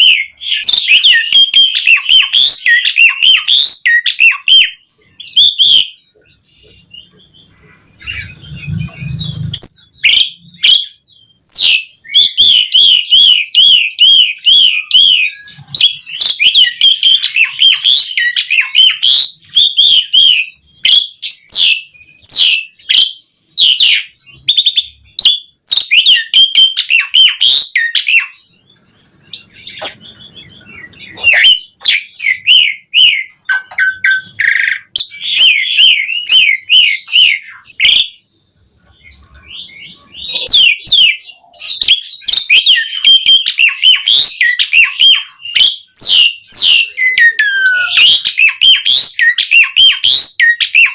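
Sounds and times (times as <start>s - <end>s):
starling singing: 0.0s - 50.9s.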